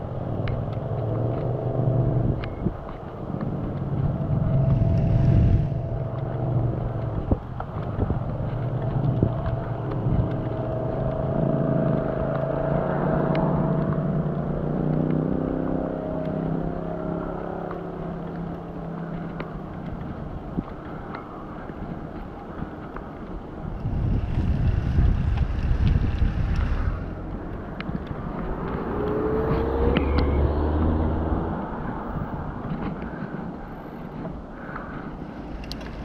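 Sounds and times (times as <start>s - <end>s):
vehicle engine drone: 0.0s - 36.0s
wind on microphone: 0.0s - 36.0s.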